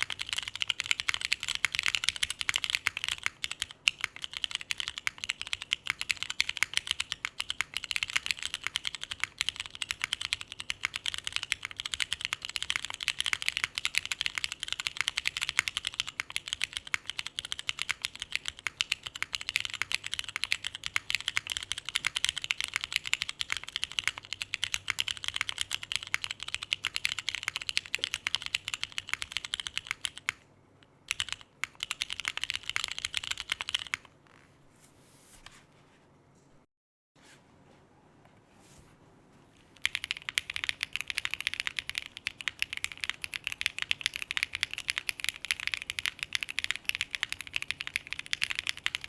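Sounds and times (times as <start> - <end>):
mechanical keyboard typing: 0.0 - 30.4, 31.1 - 34.1, 39.6 - 49.0.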